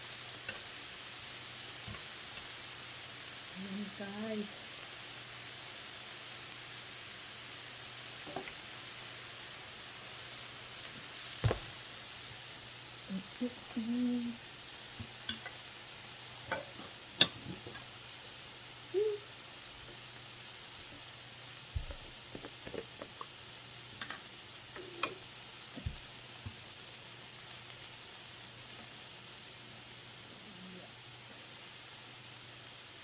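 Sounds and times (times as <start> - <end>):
meat sizzling on a grill: 0.0 - 33.0.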